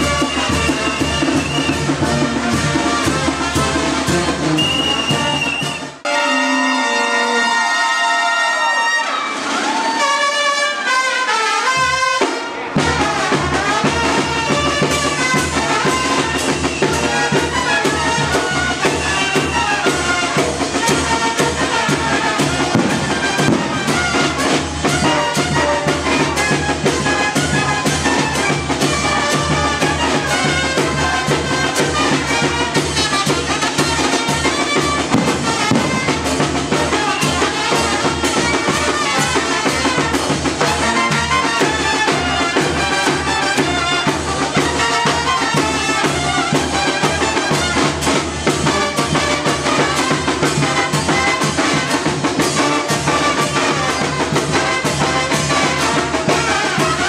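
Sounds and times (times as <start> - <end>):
steady drum beat: 0.0 - 6.0, 11.8 - 57.0
trumpets and trombones: 0.0 - 57.0.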